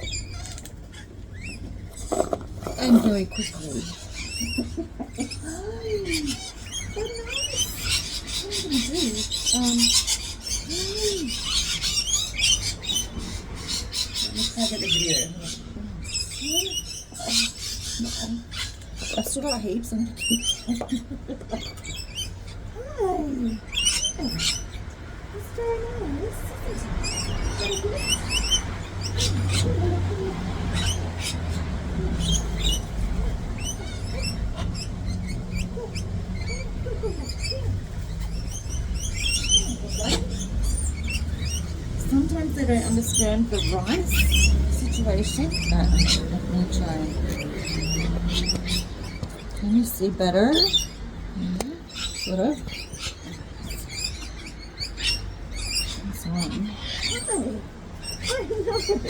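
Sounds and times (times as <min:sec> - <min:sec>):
parrots squawking: 0:00.0 - 0:59.0
wild birds chirping: 0:00.0 - 0:59.0.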